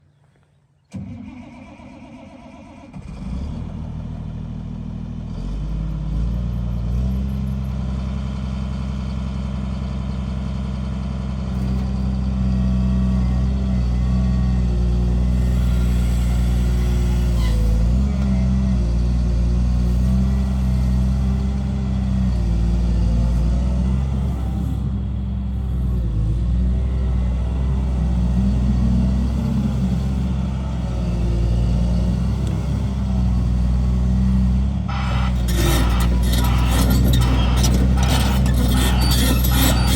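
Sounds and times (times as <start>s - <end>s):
excavator diesel engine running: 3.8s - 39.9s.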